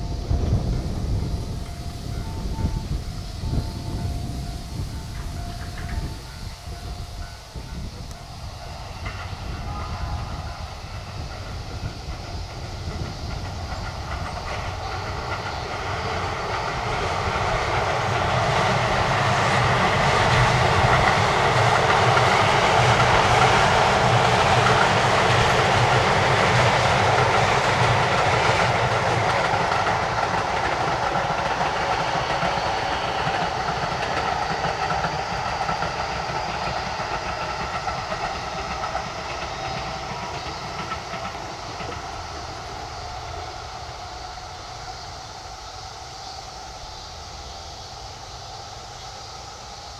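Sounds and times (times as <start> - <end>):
electric train passing on rails: 0.0 - 49.9.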